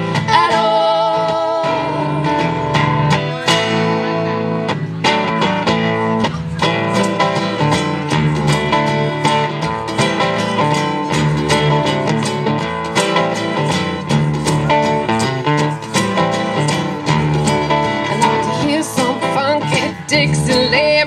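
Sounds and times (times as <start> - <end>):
country-rock guitars playing: 0.0 - 21.0.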